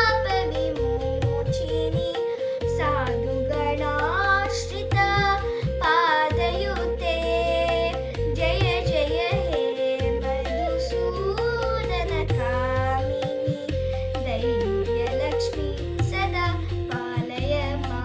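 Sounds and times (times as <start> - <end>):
low instrumental accompaniment: 0.0 - 18.0
person singing ornamented melody: 0.0 - 18.0.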